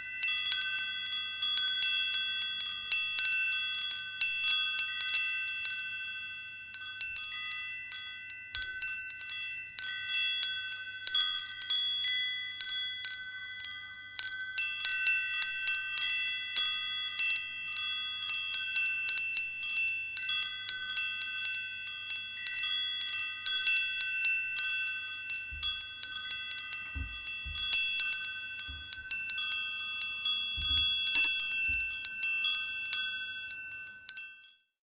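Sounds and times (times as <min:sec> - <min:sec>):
wind chimes ringing: 0:00.0 - 0:34.7.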